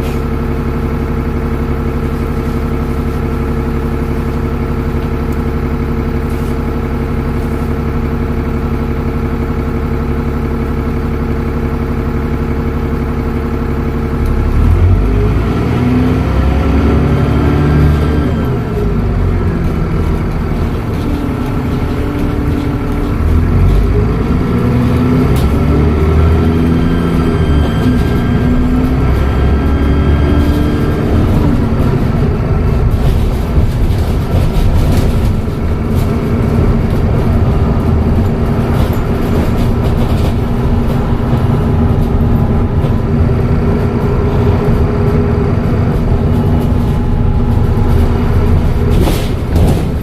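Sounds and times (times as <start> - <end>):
bus engine: 0.0 - 50.0.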